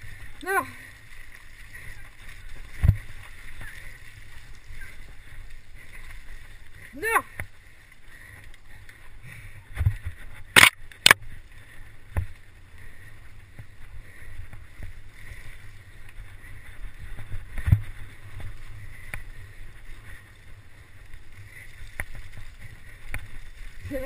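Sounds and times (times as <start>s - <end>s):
wind and tyre rumble: 0.0s - 24.0s.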